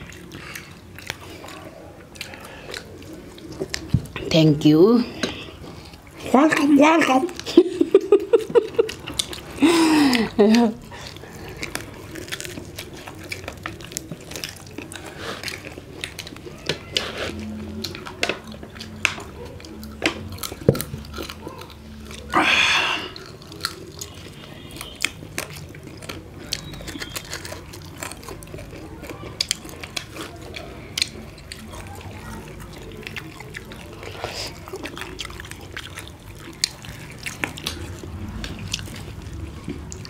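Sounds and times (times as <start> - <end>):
wet chewing and crunching: 0.0 - 40.0.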